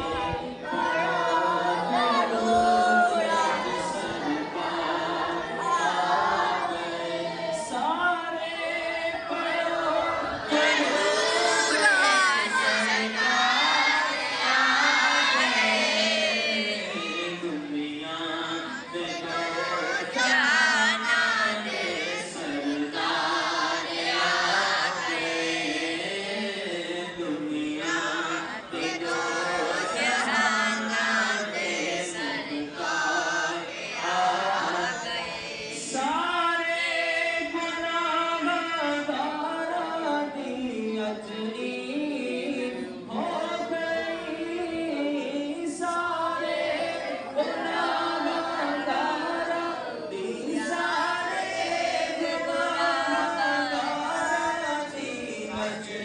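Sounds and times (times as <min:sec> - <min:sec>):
man chanting unaccompanied: 0:00.0 - 0:56.0.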